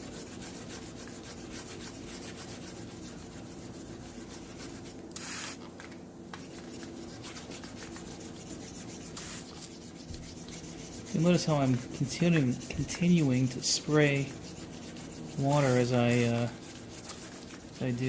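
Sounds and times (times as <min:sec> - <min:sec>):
wet sanding rubbing: 0:00.0 - 0:05.6, 0:06.6 - 0:18.0.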